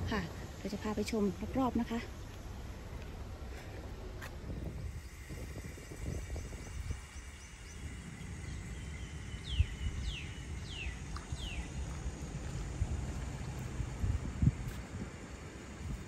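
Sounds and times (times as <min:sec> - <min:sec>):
wind rumble on microphone: 0:02.8 - 0:16.0.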